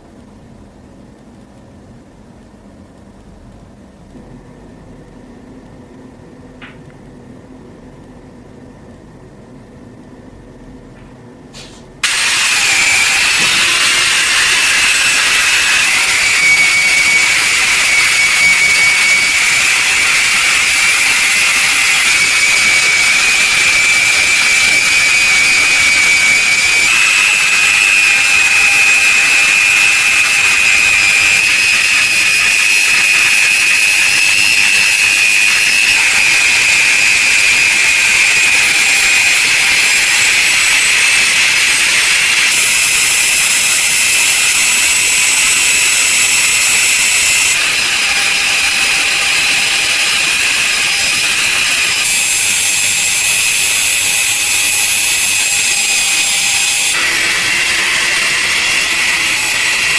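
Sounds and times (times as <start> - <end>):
power tool whining: 11.6 - 59.9.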